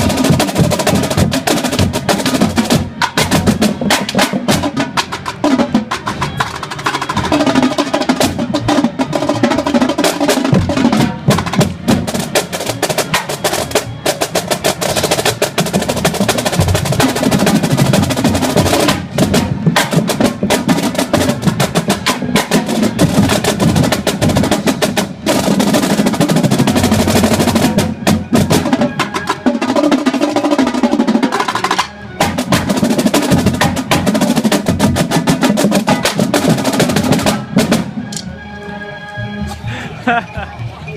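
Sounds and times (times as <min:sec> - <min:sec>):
rapid drum roll: 0:00.0 - 0:38.0.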